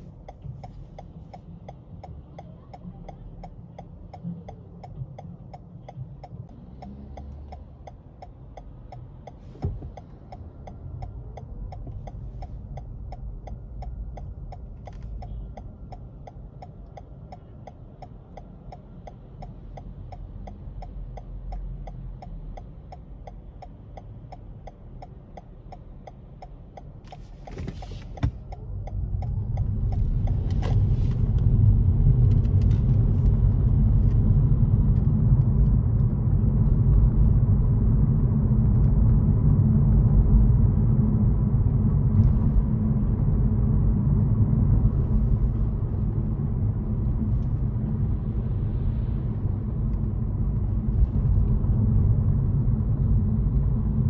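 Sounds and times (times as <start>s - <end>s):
car engine and road noise: 0.0s - 54.0s
turn signal ticking: 0.0s - 54.0s.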